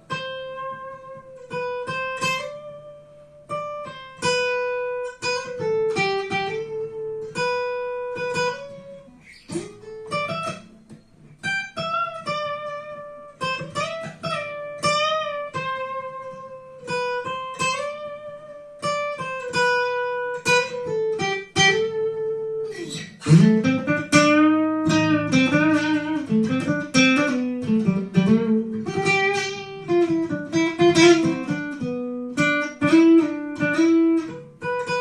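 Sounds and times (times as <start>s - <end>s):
acoustic guitar plucked melody: 0.0s - 35.0s.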